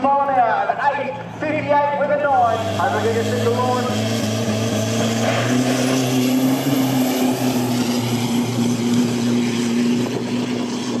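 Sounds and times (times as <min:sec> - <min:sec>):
engine droning at full throttle: 0:00.0 - 0:11.0.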